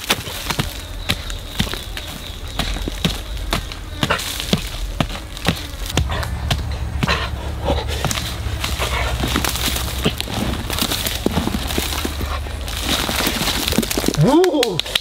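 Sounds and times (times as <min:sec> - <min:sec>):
digging tool striking dry soil: 0:00.0 - 0:15.0
hands scraping and tossing dirt: 0:00.0 - 0:15.0
low rumble: 0:01.3 - 0:14.0.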